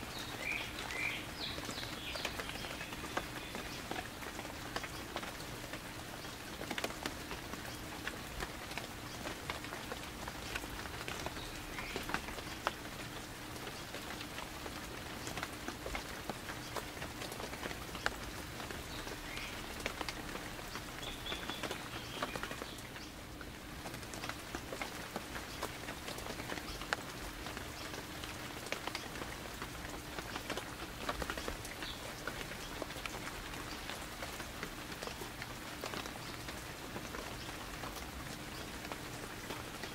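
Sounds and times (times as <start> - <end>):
light rain falling: 0.0 - 39.9
raindrops ticking: 0.0 - 39.9.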